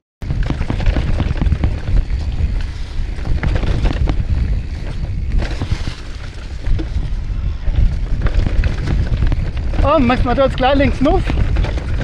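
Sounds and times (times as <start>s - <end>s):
bike tyres clicking and rattling: 0.2s - 12.0s
wind buffeting microphone: 0.2s - 12.0s.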